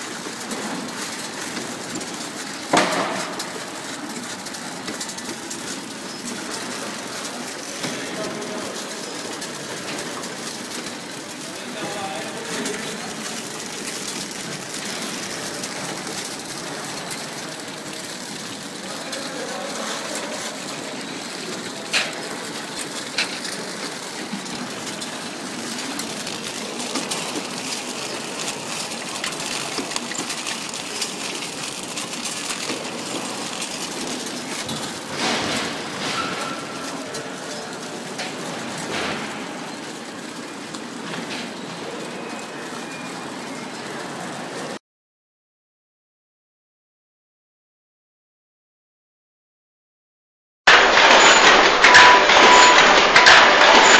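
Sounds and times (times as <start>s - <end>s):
machinery hiss and clatter: 0.0s - 42.9s, 50.7s - 53.9s.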